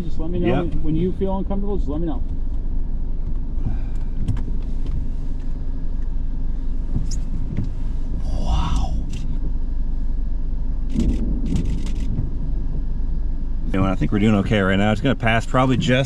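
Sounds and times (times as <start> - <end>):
low rumble in car cabin: 0.0 - 16.0.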